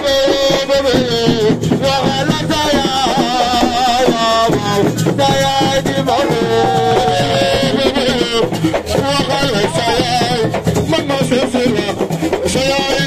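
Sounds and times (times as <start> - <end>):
hand drums beating fast rhythm: 0.0 - 13.0
man singing amplified: 0.0 - 13.0.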